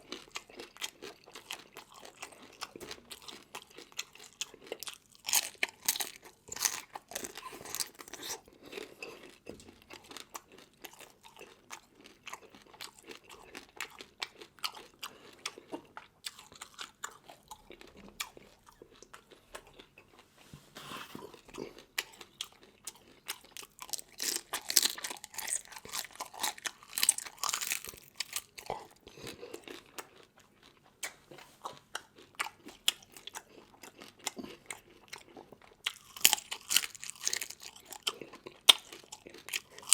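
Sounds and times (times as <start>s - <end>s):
person chewing crunchy seafood: 0.0s - 39.9s.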